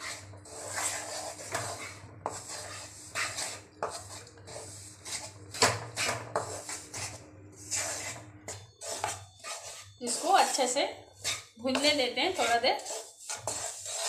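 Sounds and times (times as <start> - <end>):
wooden spatula scraping metal pan: 0.0 - 14.0.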